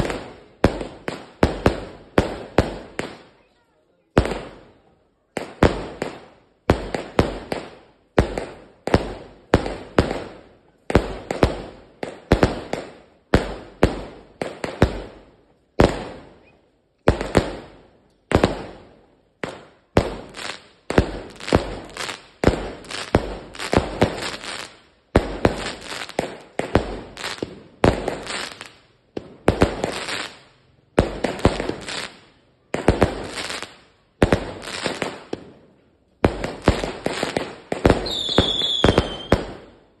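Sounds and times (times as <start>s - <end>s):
firework bangs: 0.0s - 3.4s, 4.1s - 39.8s.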